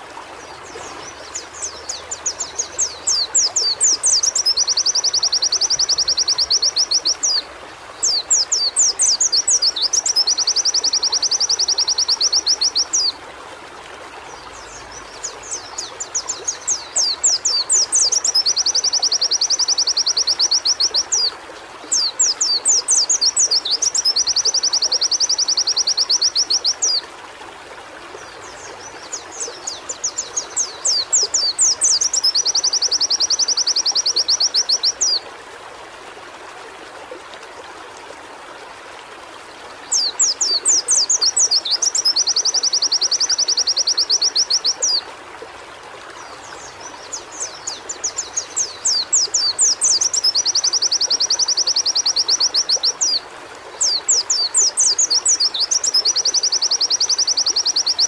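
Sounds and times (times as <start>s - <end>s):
bird singing trilling phrases: 0.0s - 13.2s, 14.3s - 27.1s, 28.2s - 35.3s, 39.8s - 45.1s, 46.2s - 58.0s.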